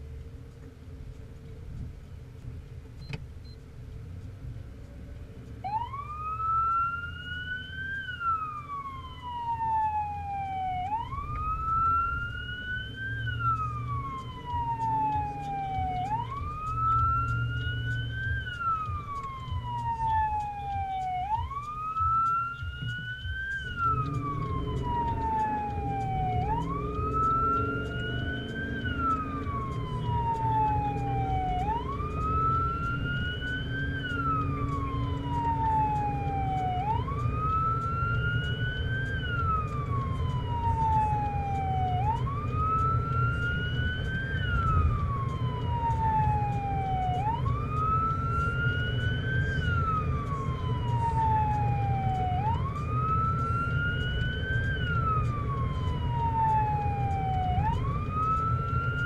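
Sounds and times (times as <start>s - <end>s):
road noise of moving vehicle: 0.0s - 59.0s
siren wailing: 5.6s - 59.0s.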